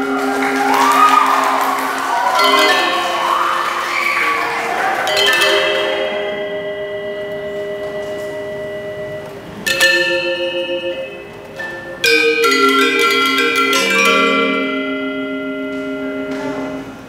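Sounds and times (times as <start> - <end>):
metallophones struck with mallets: 0.0 - 17.0.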